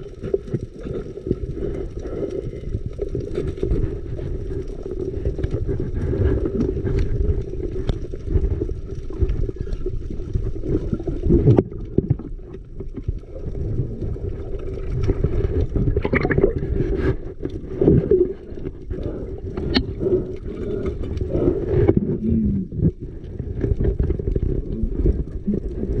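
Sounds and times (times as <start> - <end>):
muffled underwater rushing water: 0.0 - 26.0.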